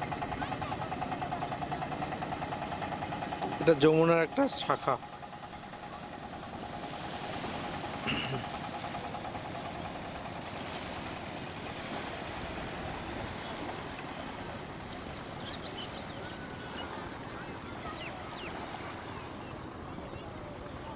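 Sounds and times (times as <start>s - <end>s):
wind: 0.0s - 20.9s
river water rushing: 2.1s - 20.9s.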